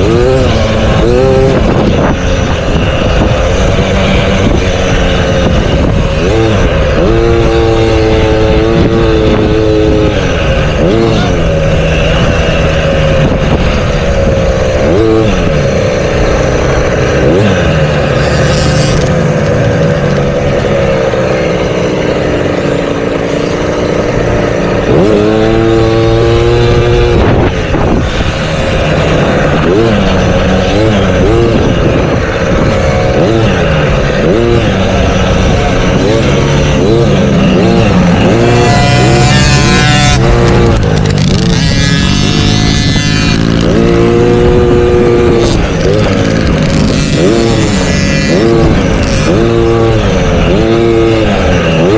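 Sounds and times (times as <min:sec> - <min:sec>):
motocross bikes revving: 0:00.0 - 0:51.9.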